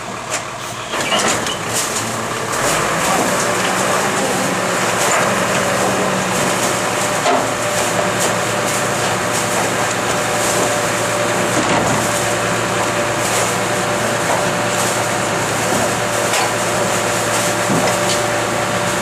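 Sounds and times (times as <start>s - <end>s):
truck engine humming: 0.0s - 19.0s.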